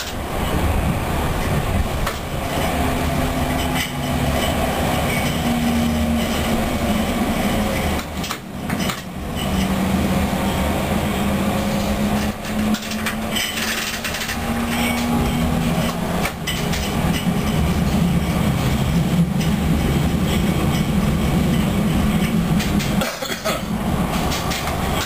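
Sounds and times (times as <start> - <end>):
tram motor hum: 0.0 - 25.0
wheels rumbling on rail: 0.0 - 25.0.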